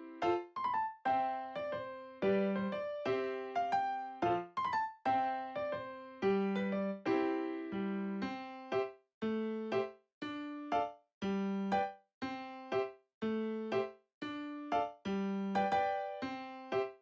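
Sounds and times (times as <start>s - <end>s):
light piano tune: 0.0s - 17.0s.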